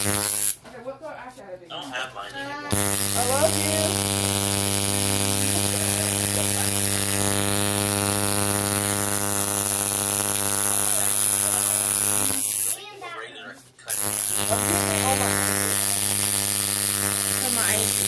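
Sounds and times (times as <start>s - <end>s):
tattoo machine buzzing: 0.0s - 0.6s, 2.7s - 12.9s, 13.9s - 18.0s.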